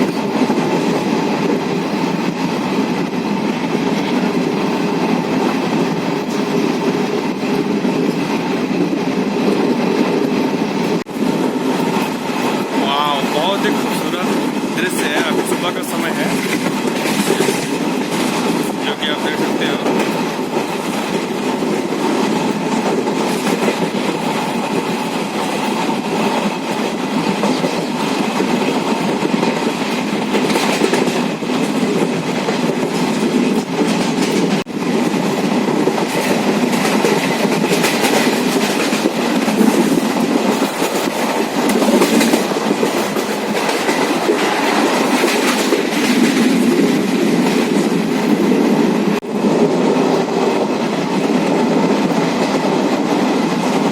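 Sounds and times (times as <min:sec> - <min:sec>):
train wheels on track: 0:00.0 - 0:53.9.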